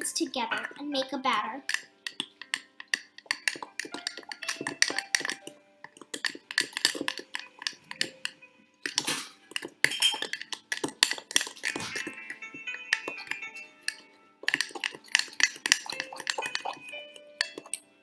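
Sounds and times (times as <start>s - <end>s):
spoon stirring batter in mug: 0.0s - 18.0s
spoon clinking against mug: 1.6s - 17.8s.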